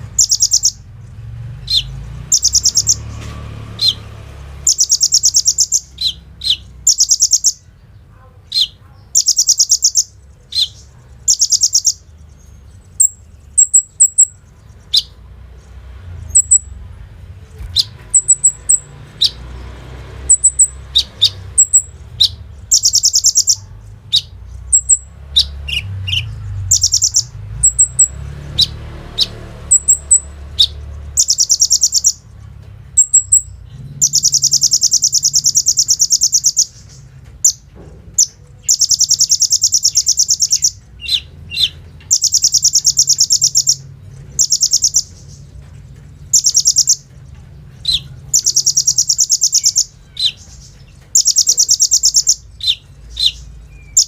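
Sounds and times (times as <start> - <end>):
bird singing rattling trills: 0.0 - 54.0.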